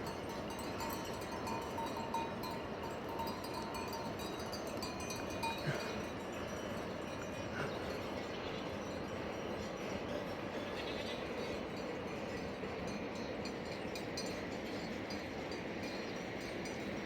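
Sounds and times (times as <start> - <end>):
sheep bells clinking: 0.0 - 17.0.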